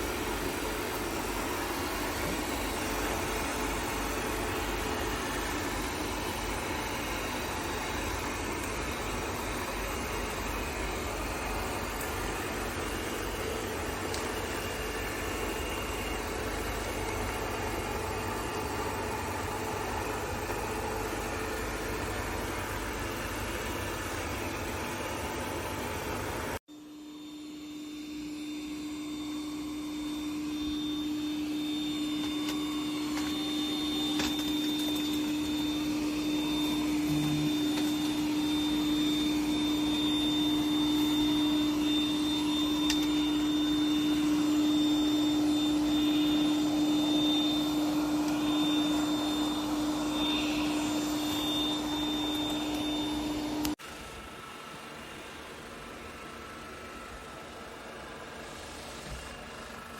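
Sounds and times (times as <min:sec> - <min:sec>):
robot vacuum motor humming: 0:00.0 - 0:25.4, 0:26.9 - 0:53.8.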